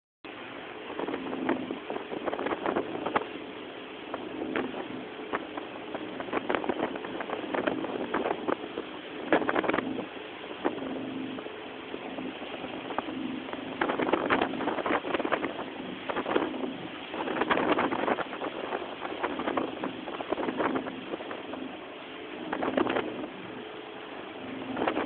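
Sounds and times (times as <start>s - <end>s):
boat engine hum: 0.2s - 25.0s
rushing wind and water: 0.2s - 25.0s
hull thumping on waves: 0.3s - 25.0s.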